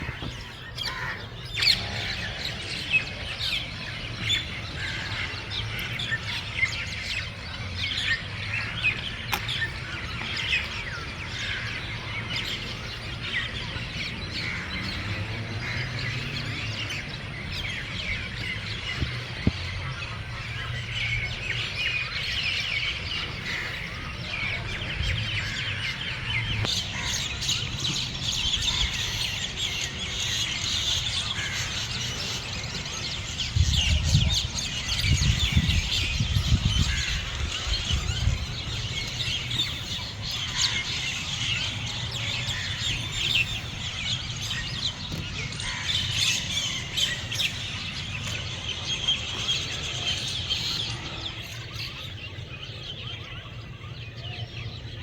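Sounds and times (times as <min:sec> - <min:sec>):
low wind rumble: 0:00.0 - 0:54.9
small birds chirping: 0:00.0 - 0:55.0.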